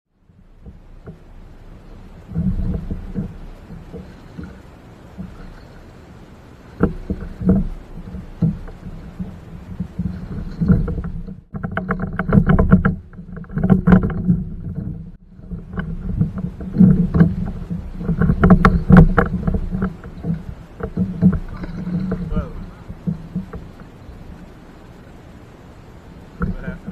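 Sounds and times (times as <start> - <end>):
knocks and scraping on plastic hull: 0.3 - 5.9, 6.7 - 24.9, 26.2 - 26.9.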